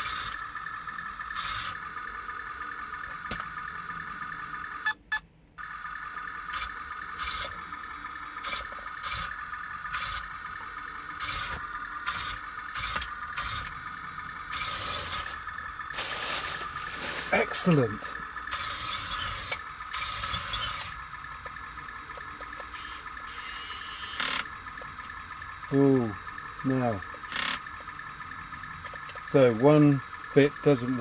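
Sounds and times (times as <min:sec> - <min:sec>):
toy tank motors whining: 0:00.0 - 0:31.0
gearbox and tracks rattling: 0:05.6 - 0:31.0.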